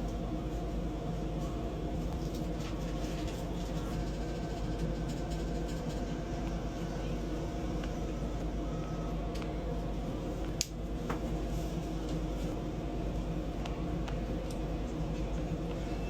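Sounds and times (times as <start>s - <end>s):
train cabin hum: 0.0s - 16.0s.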